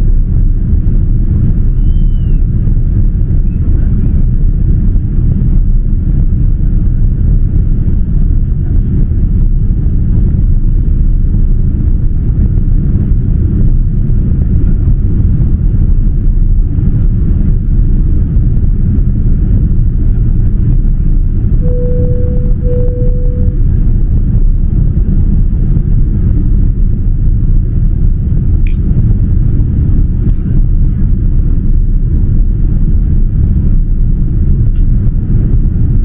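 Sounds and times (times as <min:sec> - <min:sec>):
airliner cabin roar: 0:00.0 - 0:36.0.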